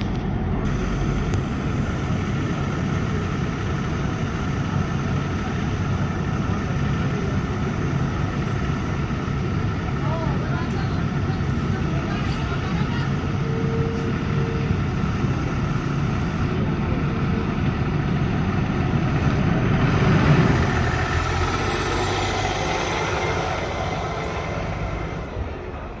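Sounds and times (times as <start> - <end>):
large vehicle engine passing: 0.7 - 26.0.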